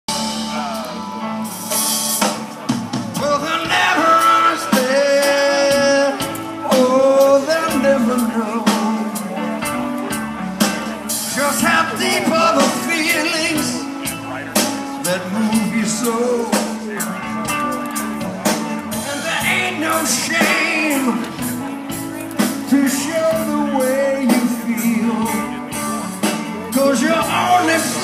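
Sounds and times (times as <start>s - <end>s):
bending lead guitar notes: 0.1s - 28.0s
blues-rock band playing: 0.1s - 28.0s.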